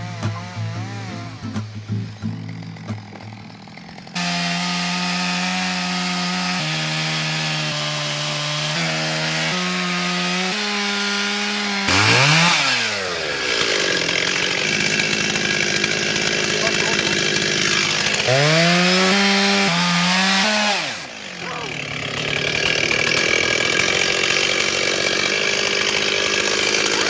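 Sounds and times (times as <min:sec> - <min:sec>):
chainsaw cutting wood: 0:00.0 - 0:27.0
chainsaw running: 0:00.0 - 0:27.0.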